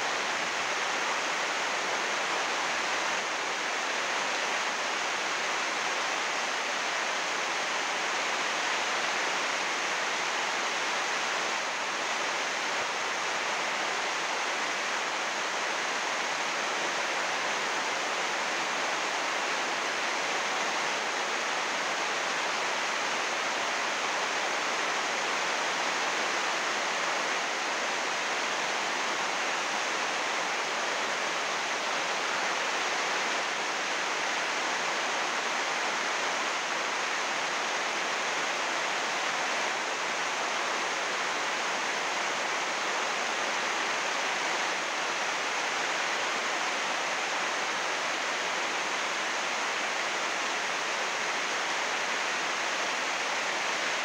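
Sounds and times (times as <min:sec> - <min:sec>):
heavy rain on plastic roof: 0:00.0 - 0:54.0.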